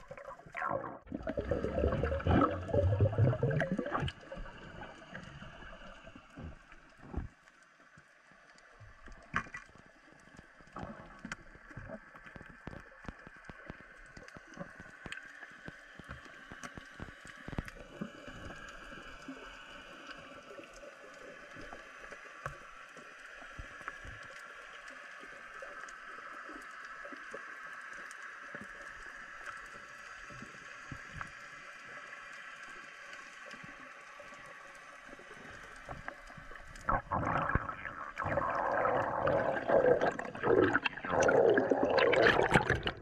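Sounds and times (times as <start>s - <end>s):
small underwater clicks: 0.0s - 43.0s
underwater water rush: 0.0s - 43.0s.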